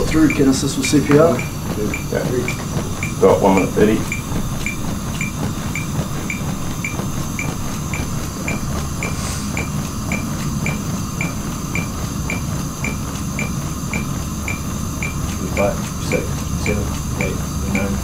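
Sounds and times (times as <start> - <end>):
metronome beeping: 0.0 - 18.0
rhythmic chest compressions: 0.0 - 18.0.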